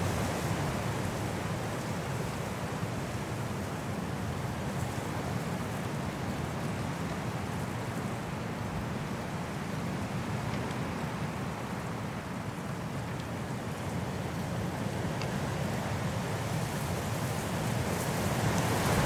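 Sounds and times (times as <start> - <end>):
high wind through trees: 0.0 - 19.0.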